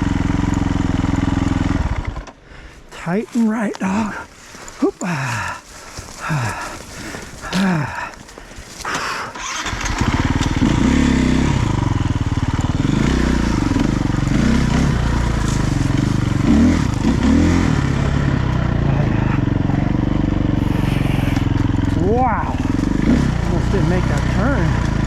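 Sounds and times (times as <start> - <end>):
dirt bike engine revving: 0.0 - 2.3, 3.4 - 25.0.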